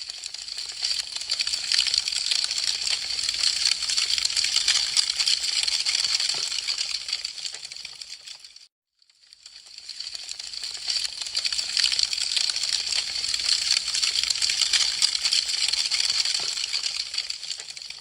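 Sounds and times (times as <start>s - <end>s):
wood fire crackling: 0.0s - 8.6s, 9.4s - 18.0s.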